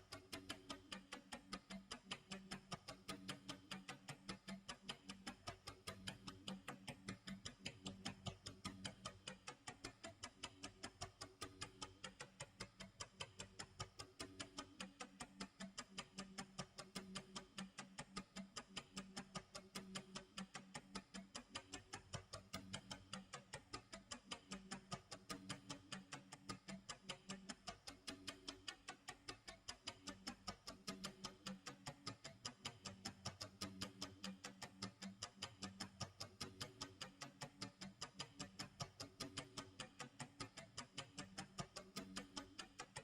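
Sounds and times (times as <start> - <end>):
clock ticking: 0.0 - 43.0.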